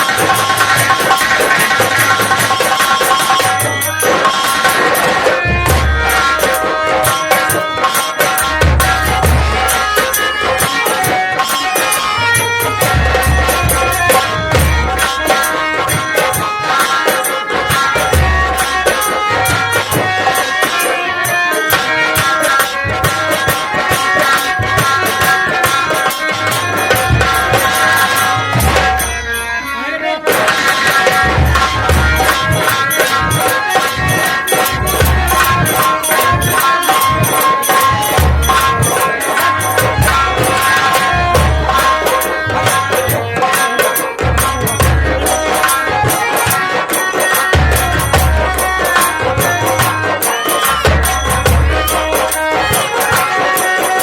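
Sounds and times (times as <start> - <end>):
drums beating a fast rhythm: 0.0 - 54.0
held melody notes: 0.0 - 54.0
jingling metal percussion: 0.0 - 54.0.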